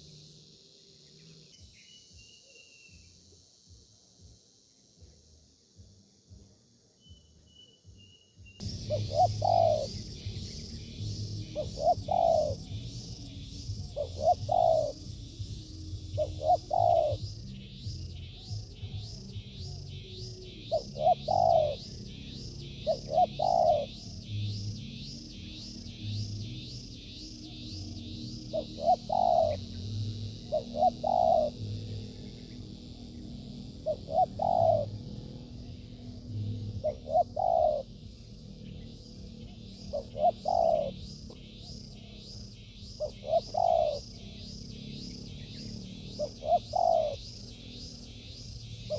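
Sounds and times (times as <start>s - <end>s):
dove cooing: 8.6s - 48.9s
high-pitched buzzing drone: 8.6s - 48.9s.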